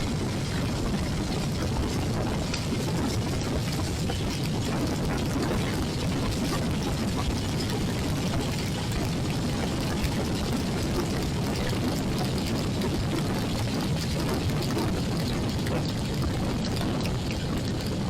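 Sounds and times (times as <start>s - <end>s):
heavy rain: 0.0s - 18.0s
wet road noise: 0.0s - 18.0s.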